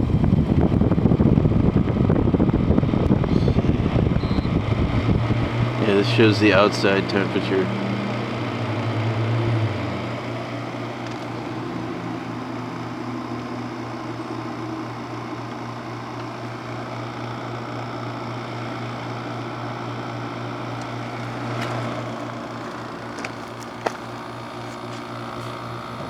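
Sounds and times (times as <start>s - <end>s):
compressor hum: 0.0s - 26.0s
fan rushing: 0.0s - 26.0s.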